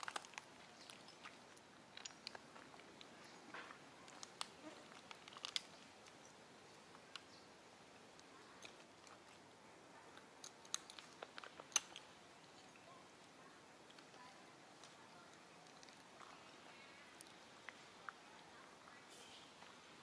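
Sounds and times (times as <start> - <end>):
faint clicks and crackles: 0.0 - 20.0.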